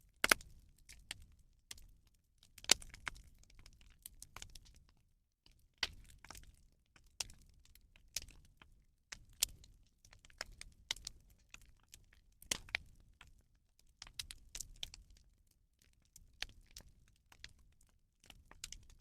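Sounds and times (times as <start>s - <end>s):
bonfire crackling and popping: 0.2s - 1.9s, 2.5s - 4.8s, 5.5s - 15.3s, 15.9s - 19.0s.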